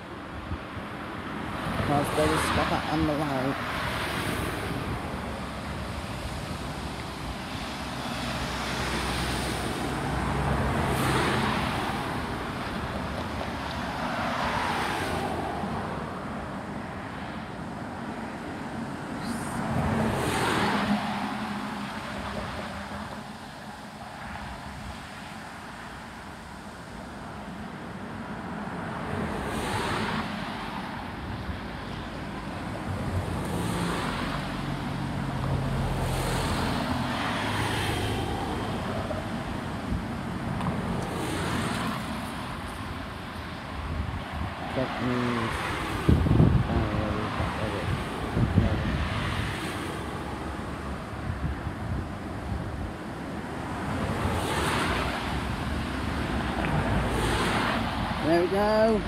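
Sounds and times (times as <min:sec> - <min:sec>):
cars driving past: 0:00.0 - 0:59.0
light steady traffic rush: 0:00.0 - 0:59.0.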